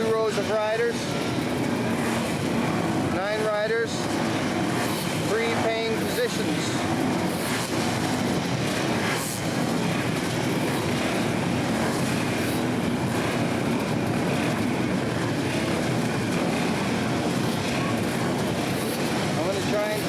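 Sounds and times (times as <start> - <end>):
motorcycle engines droning: 0.0 - 20.0.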